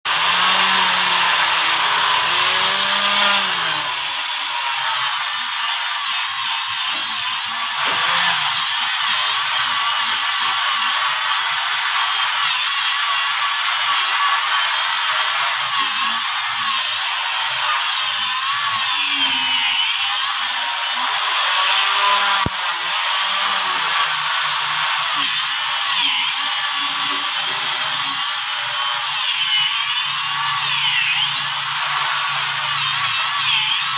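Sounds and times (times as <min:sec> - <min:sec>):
electric power tool whining: 0:00.1 - 0:33.9.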